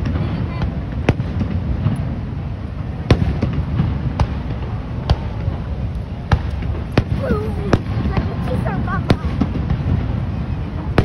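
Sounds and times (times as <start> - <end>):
fireworks bursting: 0.0 - 11.0
steady low rumble: 0.0 - 11.0.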